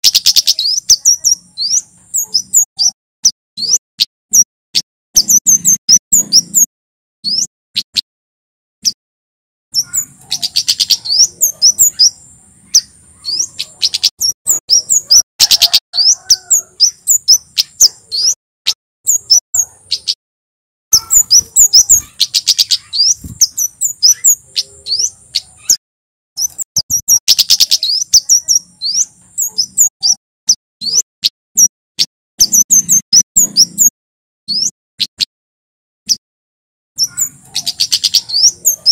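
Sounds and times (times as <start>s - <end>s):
bird singing high chirps: 0.0s - 4.5s, 5.2s - 8.0s, 9.7s - 20.2s, 20.9s - 25.8s, 26.4s - 31.7s, 32.4s - 35.3s, 37.0s - 38.9s.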